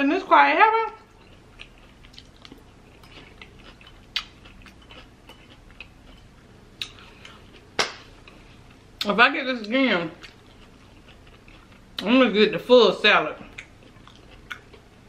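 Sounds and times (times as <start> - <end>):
chewing salad: 0.7 - 15.0.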